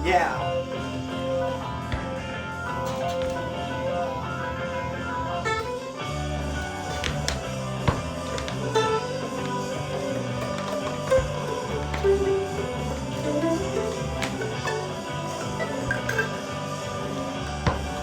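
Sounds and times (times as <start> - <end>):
low bass notes: 0.0 - 18.0
plucked string instruments: 0.0 - 18.0.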